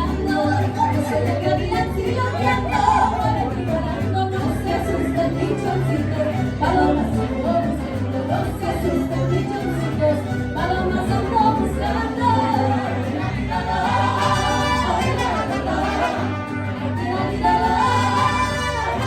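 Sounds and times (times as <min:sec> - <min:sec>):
mariachi ensemble playing: 0:00.0 - 0:19.0.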